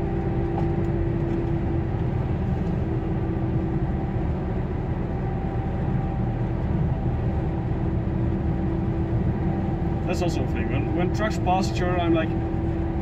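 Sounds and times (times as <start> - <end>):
road rumble: 0.0 - 13.0
truck engine drone: 0.0 - 13.0.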